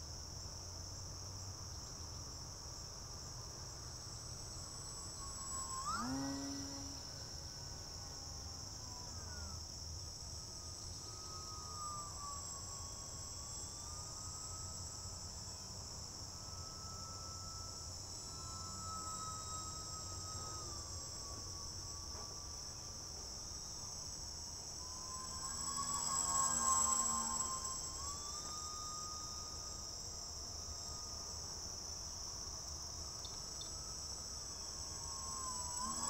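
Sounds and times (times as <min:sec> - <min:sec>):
faint thin whine: 0:00.0 - 0:36.0
insects chorus: 0:00.0 - 0:36.0.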